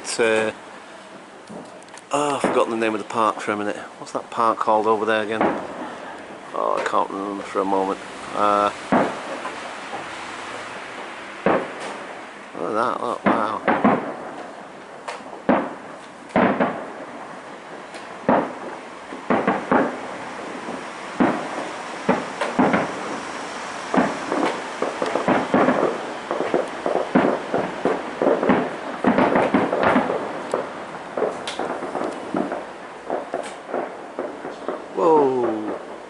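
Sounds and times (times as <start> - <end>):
fireworks banging and crackling: 0.0 - 36.0.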